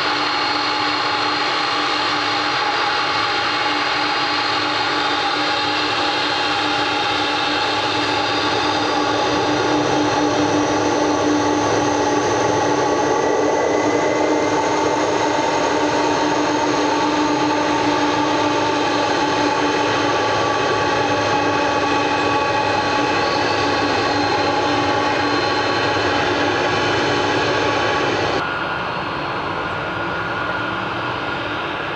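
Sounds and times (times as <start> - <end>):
jet engines running: 0.0 - 31.9.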